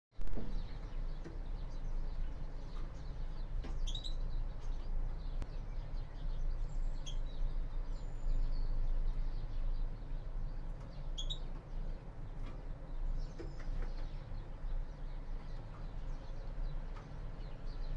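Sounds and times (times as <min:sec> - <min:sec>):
steady low hum: 0:00.2 - 0:17.9
finches chirping: 0:00.4 - 0:17.9.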